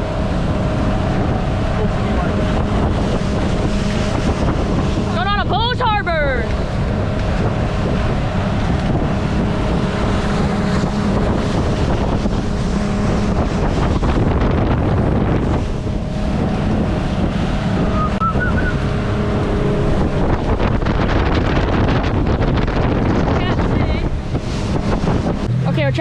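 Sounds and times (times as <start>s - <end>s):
motorboat engine running: 0.0s - 26.0s
water rushing against hull: 0.0s - 26.0s
wind buffeting microphone: 0.0s - 26.0s.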